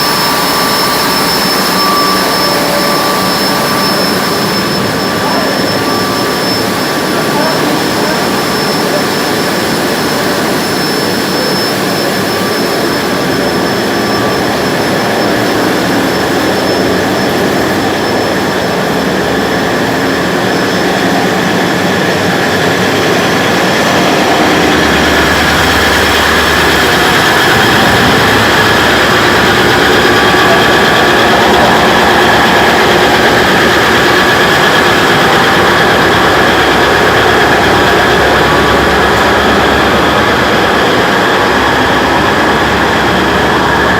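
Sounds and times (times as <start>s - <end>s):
faint high whine: 0.0s - 43.9s
ship diesel engines running: 0.0s - 43.9s.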